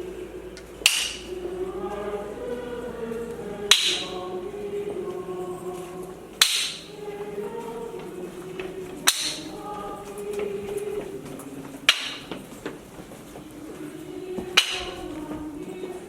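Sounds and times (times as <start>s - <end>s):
choir singing a hymn: 0.0s - 16.0s.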